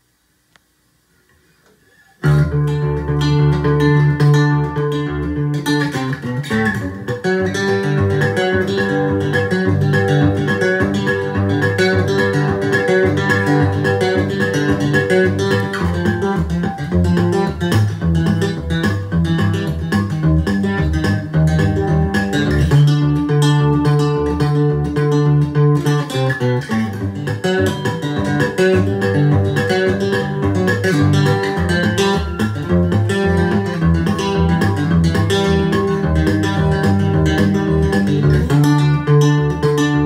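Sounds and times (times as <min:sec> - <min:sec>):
fingerstyle acoustic guitar: 0:01.1 - 0:40.0.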